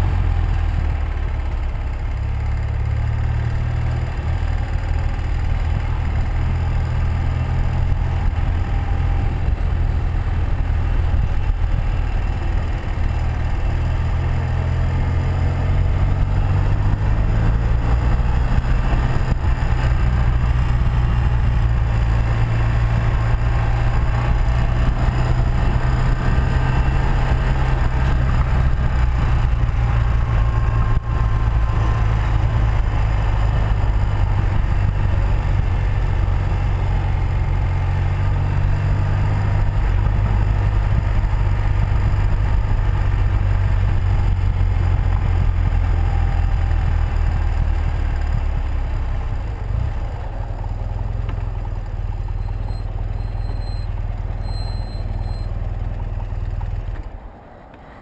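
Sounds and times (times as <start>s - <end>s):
motorcycle engine running: 0.0s - 57.3s
wind and road noise: 0.0s - 58.0s.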